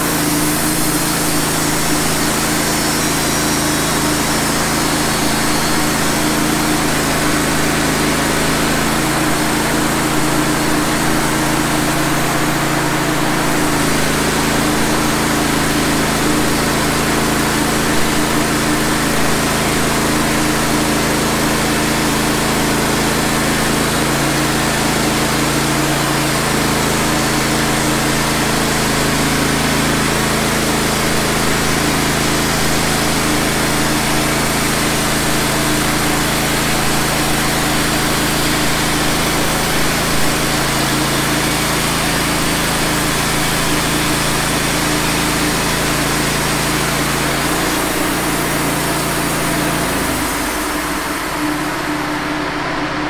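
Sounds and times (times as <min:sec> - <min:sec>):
band sawmill cutting log: 0:00.0 - 0:53.0.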